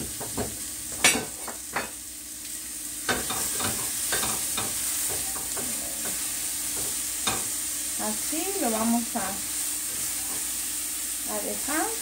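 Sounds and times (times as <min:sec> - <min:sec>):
peppers sizzling in a pot: 0:00.0 - 0:12.0.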